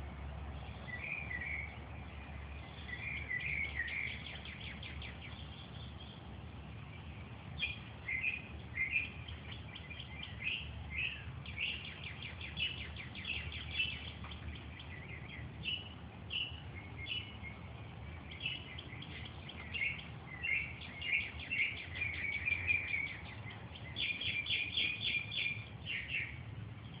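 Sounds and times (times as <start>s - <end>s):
low background rumble: 0.0s - 27.0s
songbirds chirping and trilling: 0.0s - 27.0s.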